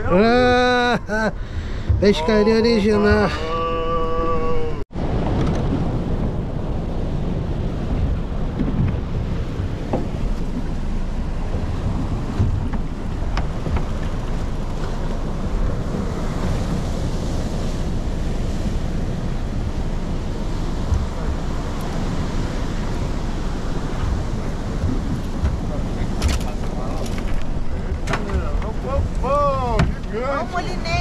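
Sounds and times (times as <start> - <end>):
sea surf rushing: 0.0 - 31.0
wind buffeting microphone: 0.0 - 31.0.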